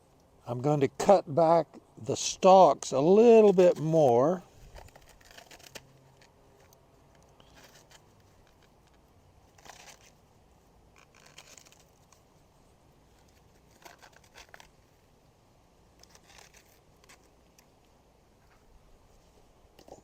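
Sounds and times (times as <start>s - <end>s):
faint rustling of leaves: 0.0s - 20.0s.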